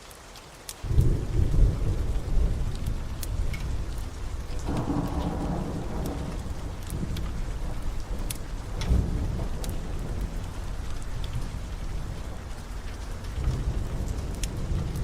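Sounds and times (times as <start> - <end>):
steady rain: 0.0 - 15.0
wood fire crackling: 0.0 - 15.0
thunder rumbling: 0.9 - 15.0.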